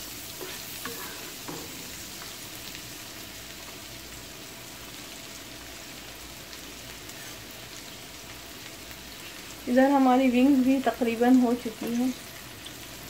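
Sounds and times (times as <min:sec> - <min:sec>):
food frying in oil: 0:00.0 - 0:13.0
garlic sizzling in butter: 0:00.0 - 0:13.0.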